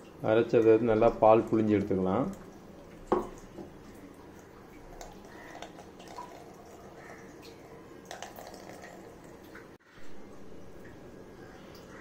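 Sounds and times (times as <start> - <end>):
liquid dripping into plastic bowl: 0.0 - 9.8.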